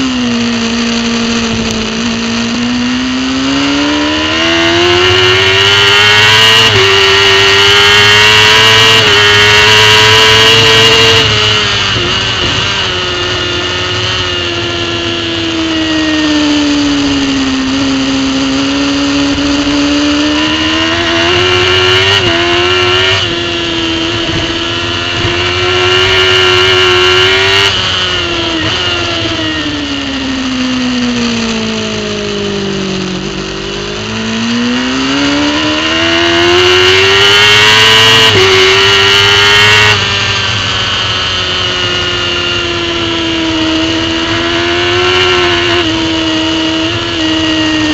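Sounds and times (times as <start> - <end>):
superbike engine at speed: 0.0 - 47.9.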